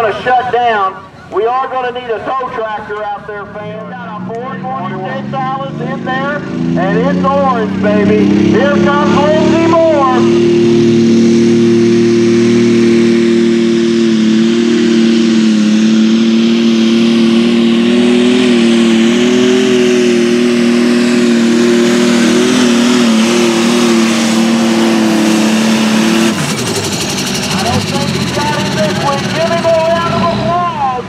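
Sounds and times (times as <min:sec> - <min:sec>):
tractor engine high drone: 0:00.0 - 0:31.0.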